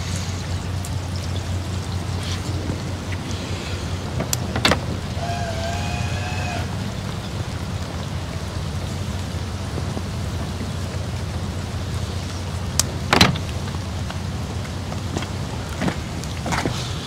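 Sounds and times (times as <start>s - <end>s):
heavy rain falling: 0.0s - 17.0s
steady low hum: 0.0s - 17.0s.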